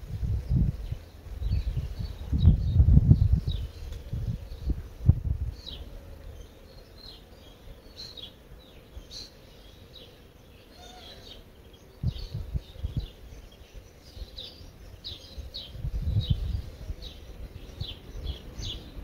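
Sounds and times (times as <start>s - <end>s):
songbird chirping: 0.5s - 19.0s.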